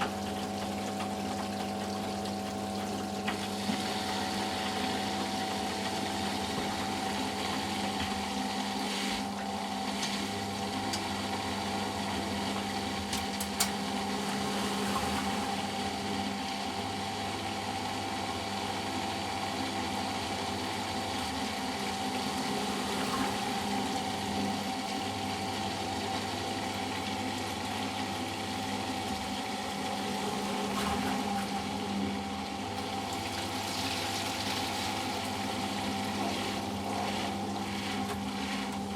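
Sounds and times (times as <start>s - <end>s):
washing machine drain pump humming: 0.0s - 38.9s.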